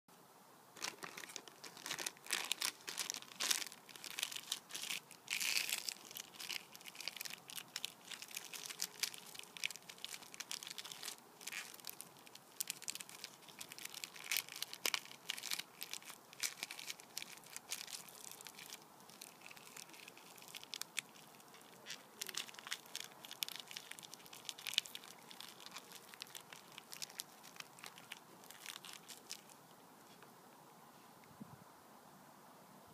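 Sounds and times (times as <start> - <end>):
crisp packet crinkling: 0.8 - 29.7.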